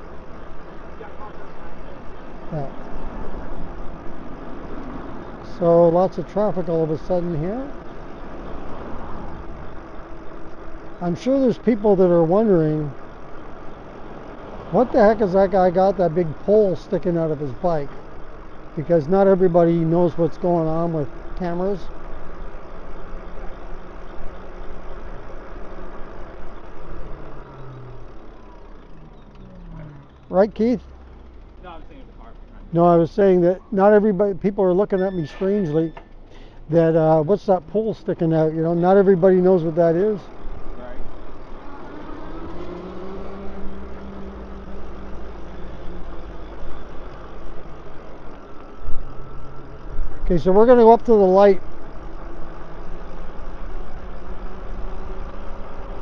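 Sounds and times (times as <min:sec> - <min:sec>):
road noise rumble: 0:00.0 - 0:56.0.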